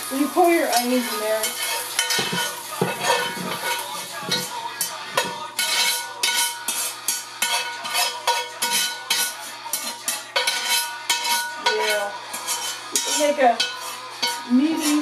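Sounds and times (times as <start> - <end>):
spatula scraping frying pan: 0.0 - 15.0.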